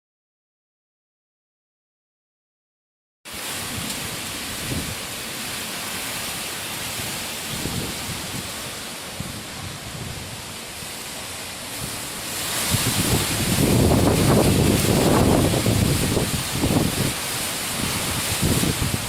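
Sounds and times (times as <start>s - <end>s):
gusty wind on microphone: 3.3s - 19.0s.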